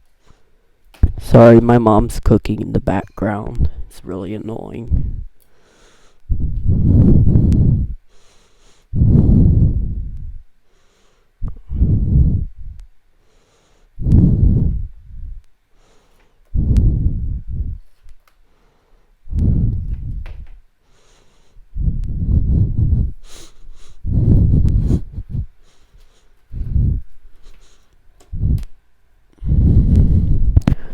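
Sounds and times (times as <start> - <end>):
person breathing heavily: 4.9 - 17.9, 18.5 - 28.7, 29.3 - 30.9.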